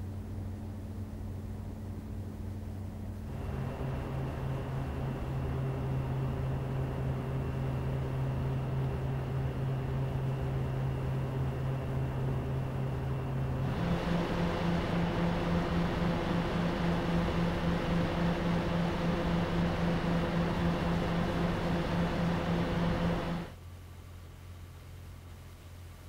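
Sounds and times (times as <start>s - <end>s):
computer fans humming: 0.0s - 23.6s.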